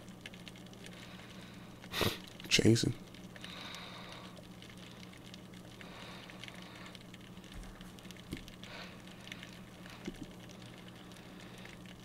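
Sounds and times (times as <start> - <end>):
low steady hum: 0.0 - 12.0
underwater crackling clicks: 0.0 - 12.0.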